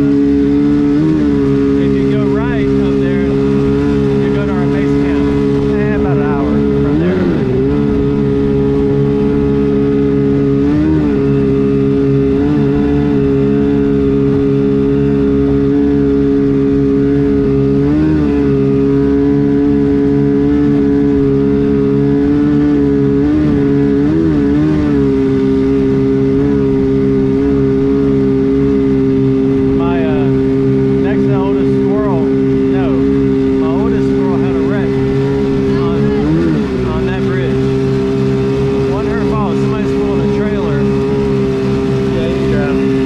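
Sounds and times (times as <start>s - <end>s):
jet boat engine droning: 0.0s - 43.0s.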